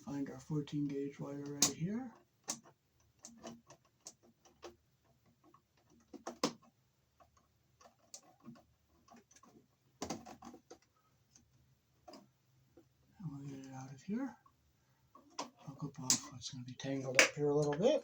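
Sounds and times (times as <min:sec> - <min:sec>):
electrical wires clicking and knocking: 0:00.8 - 0:18.0.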